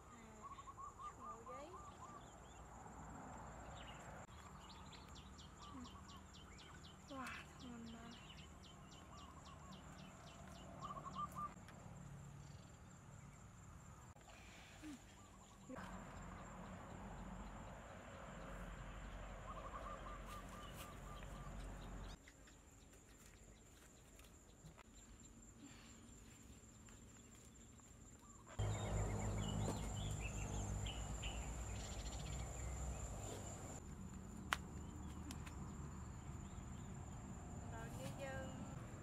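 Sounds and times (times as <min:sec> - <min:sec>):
insects droning: 0:00.1 - 0:39.0.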